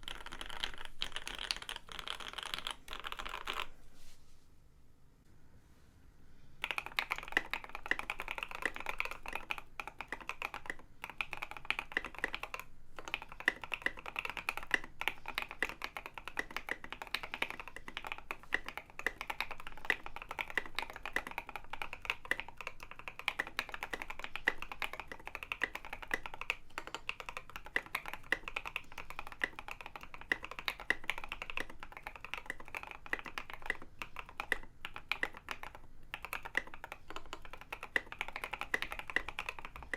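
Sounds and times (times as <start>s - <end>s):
fast mechanical keyboard typing: 0.0s - 3.7s, 6.6s - 39.9s.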